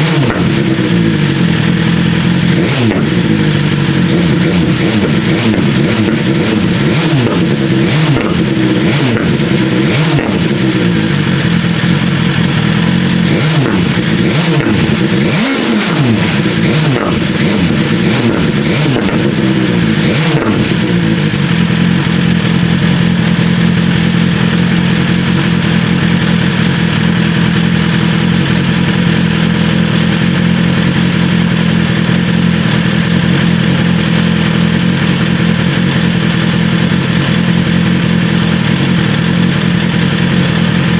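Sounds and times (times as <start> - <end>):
exhaust popping and crackling: 0.0 - 40.9
motorcycle engine idling: 0.0 - 40.9
motorcycle engine revving: 0.0 - 40.9.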